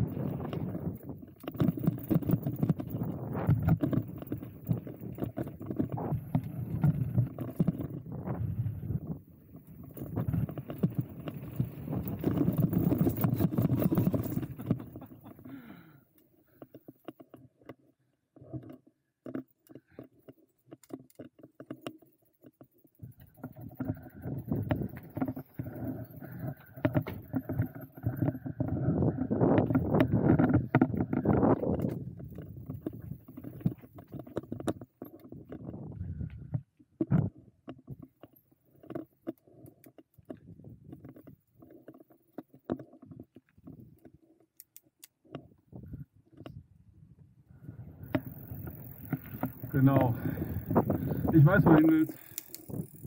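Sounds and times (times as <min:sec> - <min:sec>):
bike knocking and rattling: 0:00.0 - 0:46.6, 0:47.5 - 0:53.0.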